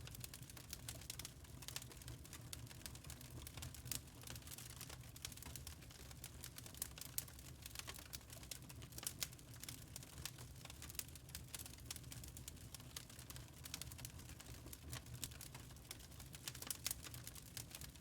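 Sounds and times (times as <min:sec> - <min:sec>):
low rumble of burning logs: 0:00.0 - 0:18.0
wood fire crackling and popping: 0:00.0 - 0:18.0.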